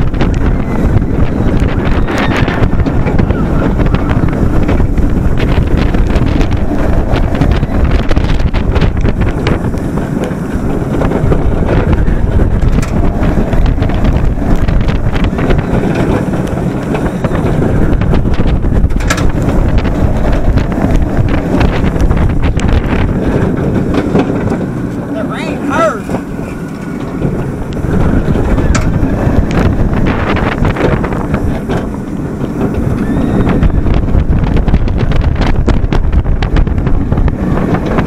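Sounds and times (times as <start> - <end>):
roller coaster train rumbling: 0.0 - 38.0
wind rushing over microphone: 0.0 - 38.0
sharp clicks and rattles: 1.2 - 25.1, 26.0 - 33.0.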